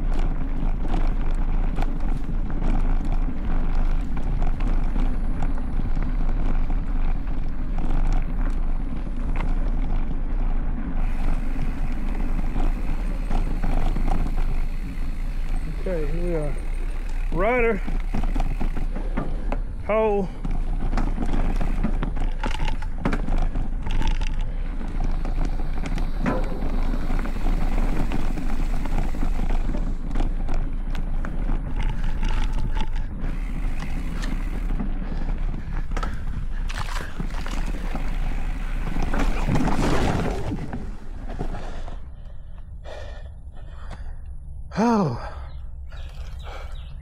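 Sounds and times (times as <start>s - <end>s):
bike knocking and rattling: 0.0s - 42.8s
tyre and wind rush: 0.0s - 43.0s.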